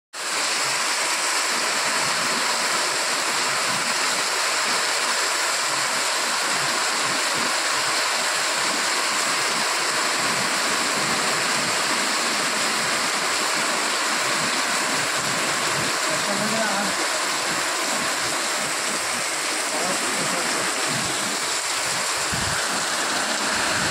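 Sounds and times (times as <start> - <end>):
heavy rain hissing: 0.2 - 23.9.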